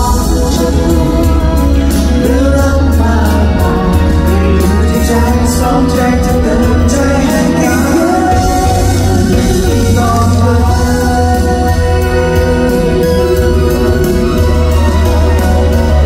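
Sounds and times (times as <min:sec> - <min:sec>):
live pop band: 0:00.0 - 0:16.0
man singing into microphone: 0:00.0 - 0:16.0.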